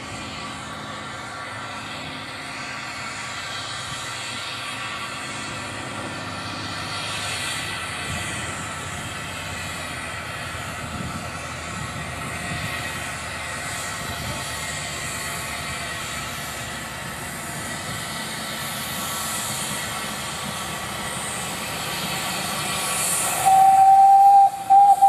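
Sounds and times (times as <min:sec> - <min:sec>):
steam hissing: 0:00.0 - 0:25.0
wheels rumbling on rails: 0:00.0 - 0:25.0.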